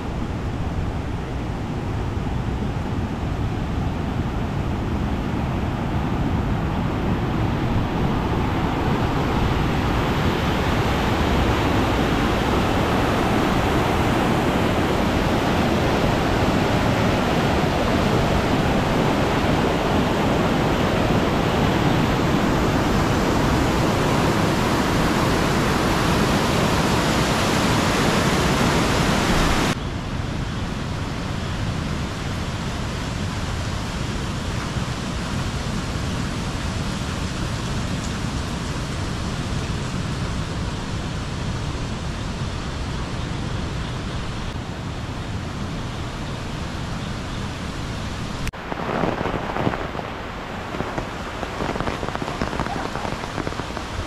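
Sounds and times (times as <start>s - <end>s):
steady rain falling: 3.1s - 29.8s, 32.2s - 43.2s, 44.2s - 54.0s.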